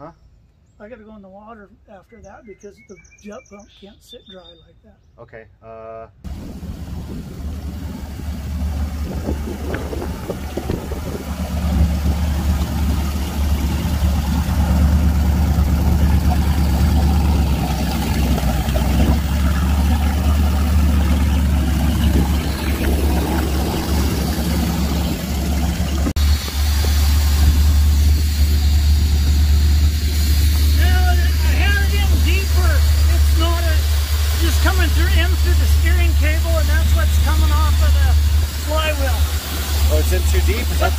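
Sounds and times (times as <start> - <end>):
boat engine running: 6.2 - 40.9.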